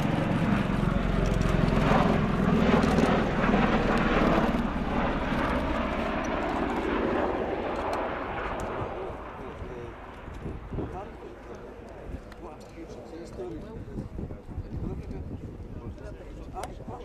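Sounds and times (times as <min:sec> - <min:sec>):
tiltrotor aircraft droning: 0:00.0 - 0:17.0.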